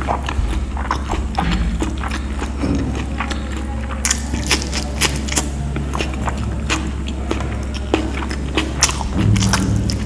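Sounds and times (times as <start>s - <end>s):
steady low hum: 0.0s - 10.0s
wet chewing and lip-smacking: 0.0s - 10.0s.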